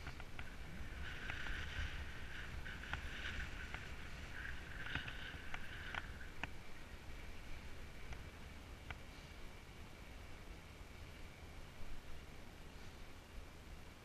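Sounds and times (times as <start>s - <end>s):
bike tyre and drivetrain hiss: 0.0s - 14.0s
wind rumble on microphone: 0.0s - 14.0s.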